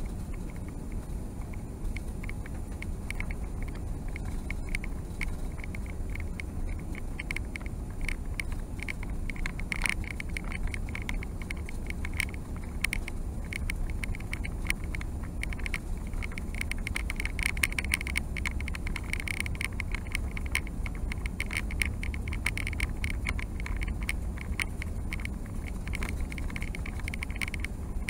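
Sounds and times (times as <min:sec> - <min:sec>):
aircraft cabin rumble: 0:00.0 - 0:28.0
light clicks and rattles: 0:00.0 - 0:28.0.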